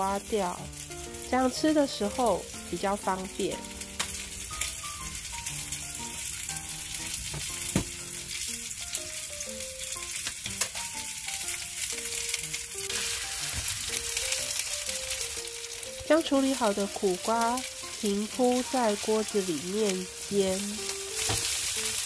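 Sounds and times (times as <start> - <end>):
oil sizzling in a frying pan: 0.0 - 22.0
soft background music: 0.0 - 22.0.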